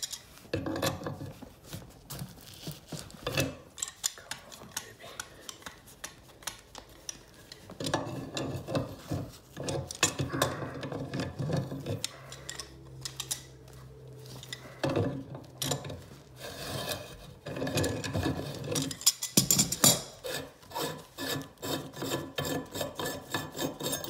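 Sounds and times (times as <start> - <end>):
low steady hum: 0.0 - 20.2
scraping rust off metal pipe: 2.2 - 24.0.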